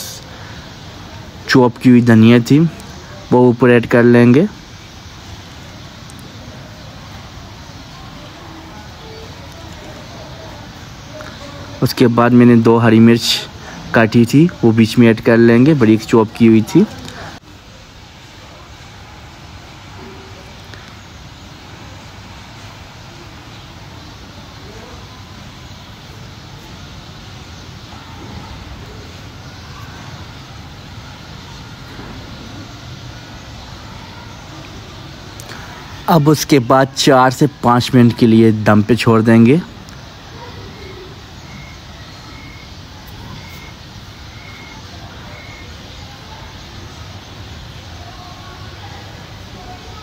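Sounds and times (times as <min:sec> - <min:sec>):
faint high-pitched calls: 0:00.0 - 0:50.0
steady background hiss: 0:00.0 - 0:50.0.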